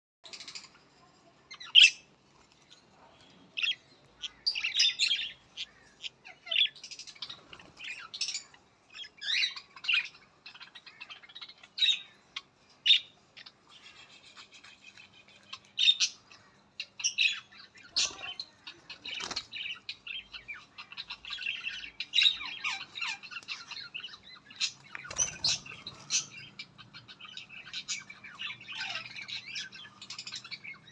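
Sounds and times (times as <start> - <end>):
budgerigars chirping and squawking: 0.3 - 30.9.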